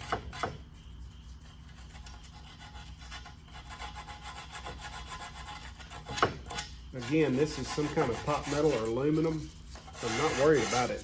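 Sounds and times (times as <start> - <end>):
sandpaper rubbing on metal: 0.0 - 11.0.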